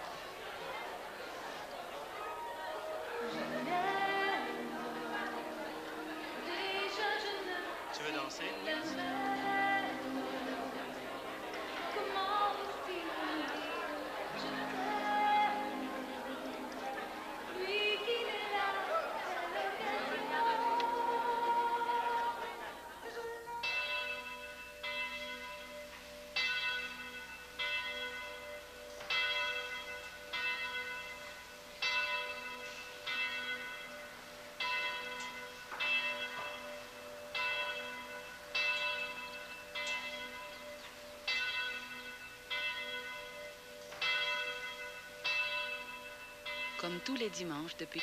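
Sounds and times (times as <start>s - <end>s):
church bell tolling: 2.1s - 48.0s.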